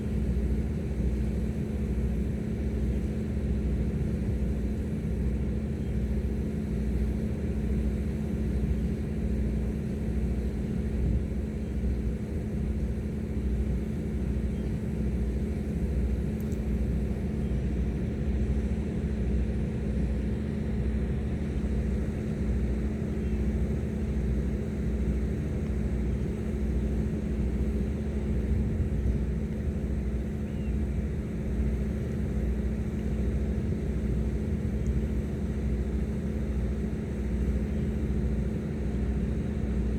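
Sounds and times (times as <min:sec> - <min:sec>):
boat engines droning: 0:00.0 - 0:39.9.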